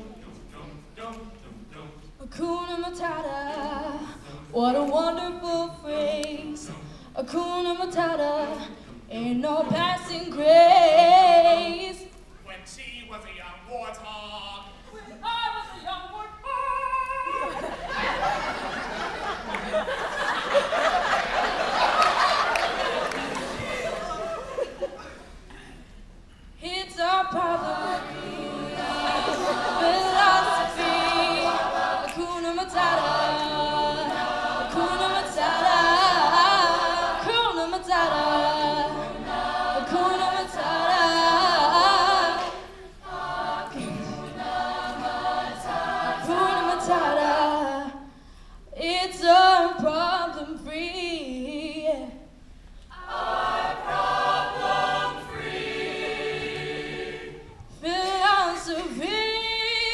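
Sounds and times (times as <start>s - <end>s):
a cappella choir singing: 0.0s - 12.2s, 17.3s - 25.4s, 26.8s - 48.1s, 48.7s - 59.9s.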